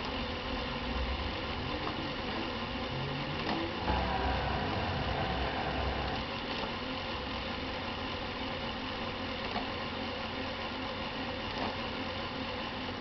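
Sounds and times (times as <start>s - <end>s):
laptop mechanical running noise: 0.0s - 13.0s.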